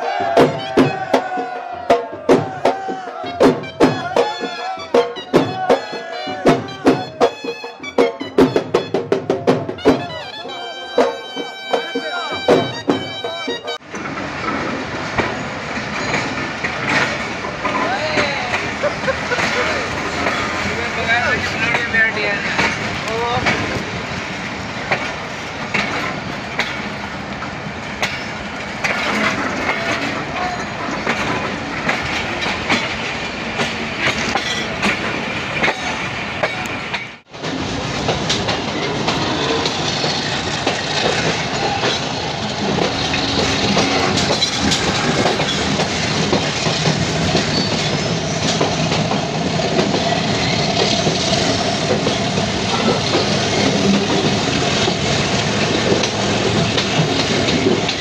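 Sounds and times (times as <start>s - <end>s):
train rumbling on rails: 0.0s - 58.0s
wheels clicking over rail joints: 8.0s - 58.0s.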